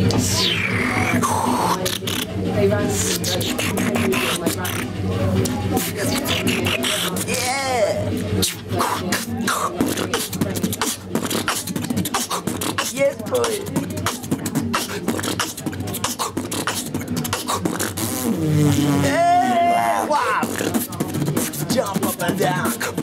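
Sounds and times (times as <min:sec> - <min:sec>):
man beatboxing: 0:00.0 - 0:23.0
voiced pitched tone: 0:00.0 - 0:23.0.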